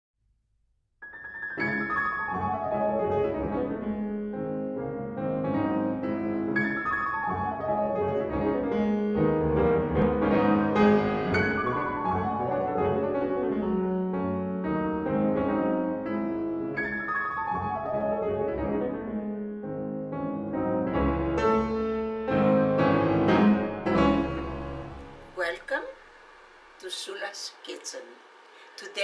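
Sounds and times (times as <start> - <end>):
piano music with falling runs: 1.0 - 25.4.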